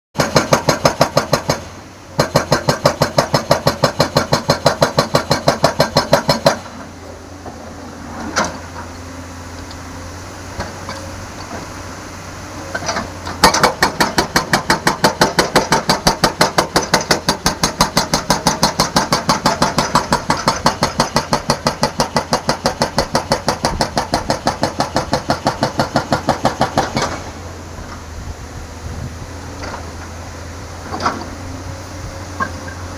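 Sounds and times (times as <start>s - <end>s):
diesel engine running: 0.2s - 32.9s
hydraulic breaker hammering road: 0.2s - 32.9s.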